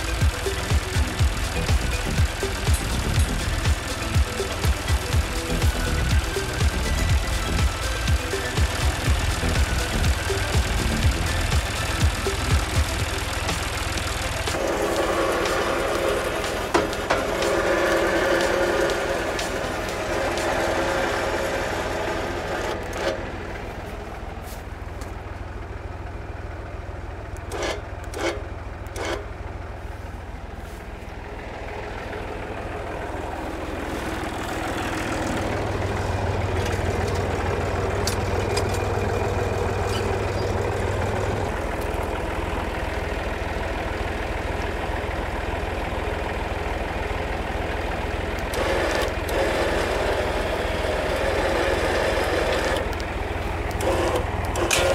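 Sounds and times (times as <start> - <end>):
tractor engine idling: 0.0 - 54.9.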